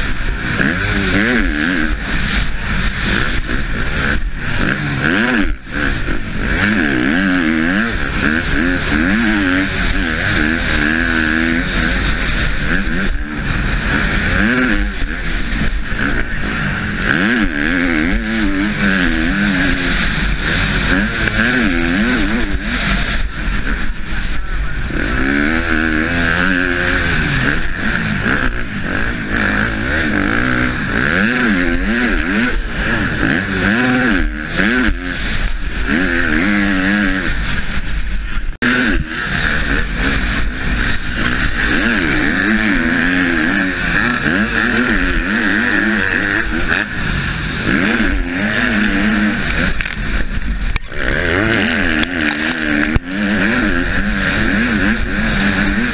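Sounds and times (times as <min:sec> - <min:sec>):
motocross bike engine revving: 0:00.0 - 0:55.9
wind over microphone: 0:11.0 - 0:55.9.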